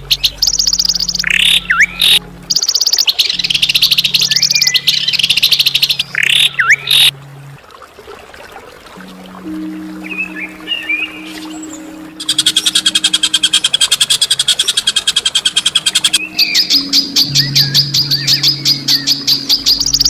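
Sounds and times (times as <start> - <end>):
high repeated bird notes: 0.0 - 7.5, 9.4 - 20.0
low music drone: 0.0 - 7.9, 9.0 - 20.0
songbird chirps and trills: 0.0 - 20.0.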